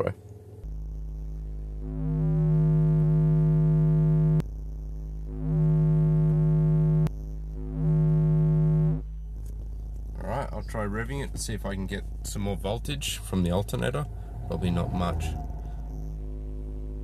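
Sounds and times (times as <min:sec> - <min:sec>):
subwoofer test tone hum: 0:00.0 - 0:17.0
loud buzzing drone: 0:00.6 - 0:09.2, 0:11.7 - 0:17.0.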